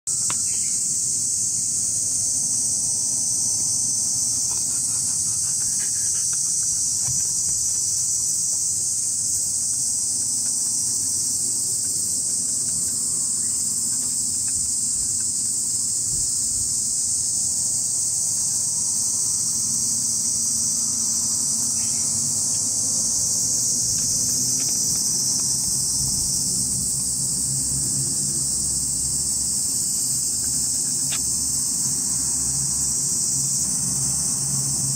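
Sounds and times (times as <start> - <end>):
cicadas chorus: 0.1 - 34.9.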